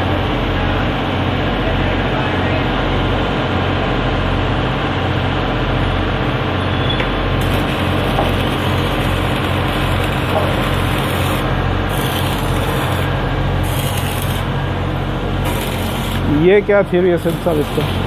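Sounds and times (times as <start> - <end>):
loud mechanical drone: 0.0 - 18.0.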